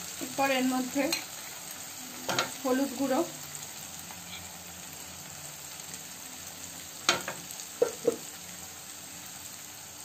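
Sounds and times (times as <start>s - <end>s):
paste sizzling in oil: 0.0s - 10.0s.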